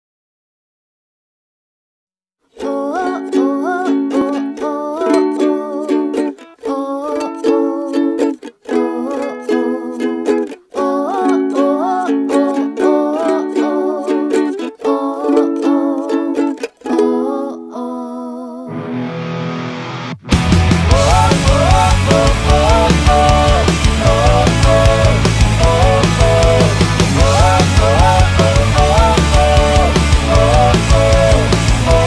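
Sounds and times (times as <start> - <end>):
ukulele strumming: 2.6 - 17.8, 18.7 - 32.0
woman singing: 2.6 - 18.8, 20.9 - 32.0.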